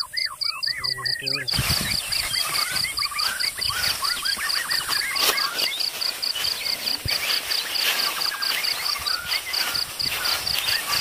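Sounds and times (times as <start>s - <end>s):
birds chirping: 0.0s - 11.0s
insect chirping: 0.0s - 11.0s.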